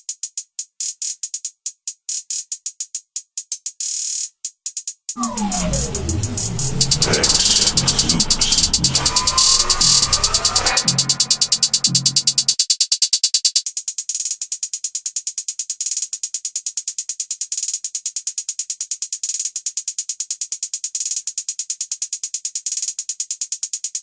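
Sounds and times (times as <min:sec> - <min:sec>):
closed hi-hat ticks and rolls: 0:00.0 - 0:24.0.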